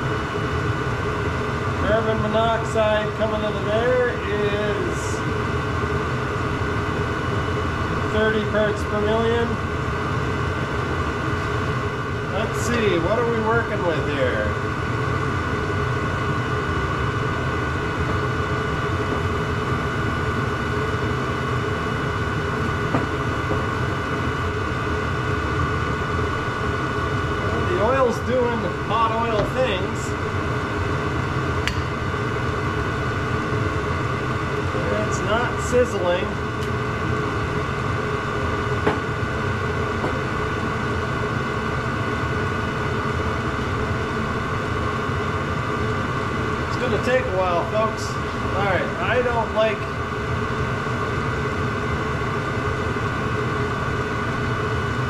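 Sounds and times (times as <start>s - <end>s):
blower whine: 0.0s - 55.0s
heater burner rumble: 0.0s - 55.0s.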